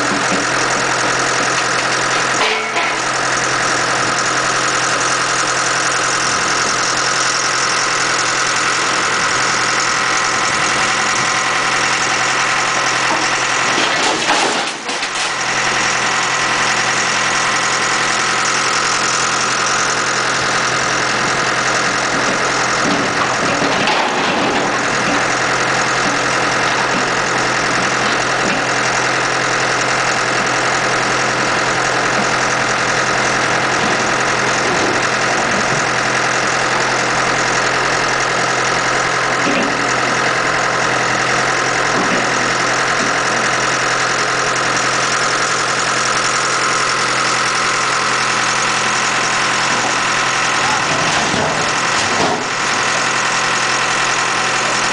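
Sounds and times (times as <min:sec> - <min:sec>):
scrap metal baler drone: 0:00.0 - 0:54.9.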